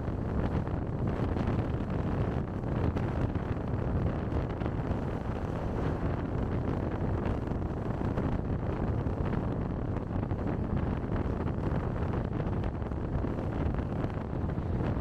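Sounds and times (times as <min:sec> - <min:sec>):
car driving rumble: 0:00.0 - 0:15.0
wind on microphone: 0:00.0 - 0:15.0.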